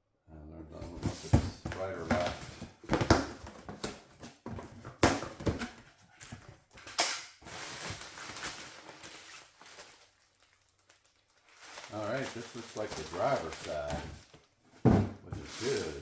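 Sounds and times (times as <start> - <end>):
cardboard packaging rustling: 0.8 - 16.0.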